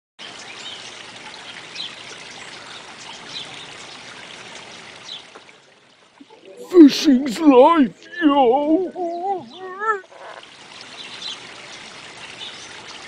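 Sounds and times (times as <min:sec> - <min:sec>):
stream water rushing: 0:00.2 - 0:13.0.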